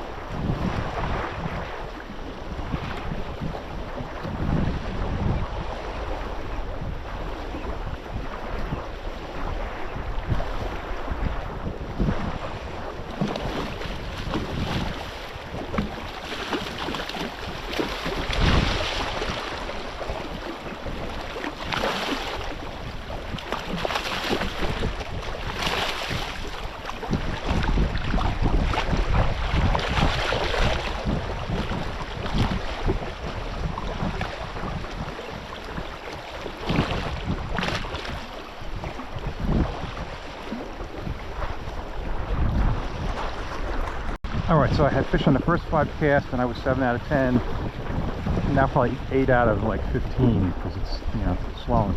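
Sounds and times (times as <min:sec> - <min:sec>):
moving water: 0:00.0 - 0:51.9
wind gusting on microphone: 0:00.0 - 0:51.9.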